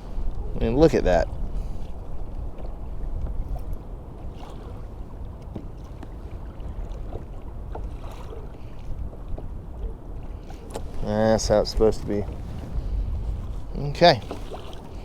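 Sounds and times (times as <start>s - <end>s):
wind rumble: 0.0s - 5.4s, 6.4s - 15.0s
water noise: 0.0s - 15.0s.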